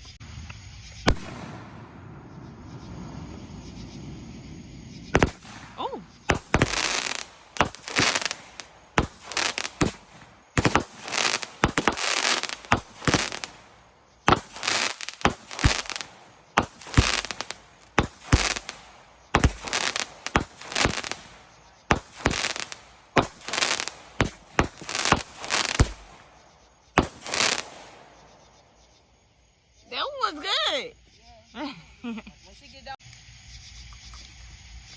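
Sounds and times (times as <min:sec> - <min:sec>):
fireworks bangs and crackling: 0:00.2 - 0:28.7.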